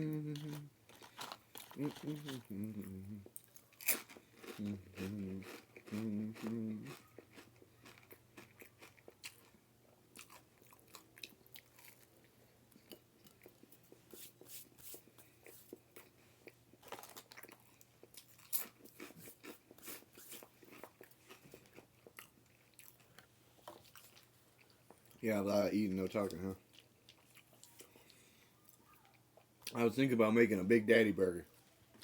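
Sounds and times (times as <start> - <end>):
person chewing food: 0.1 - 25.2, 26.2 - 29.8.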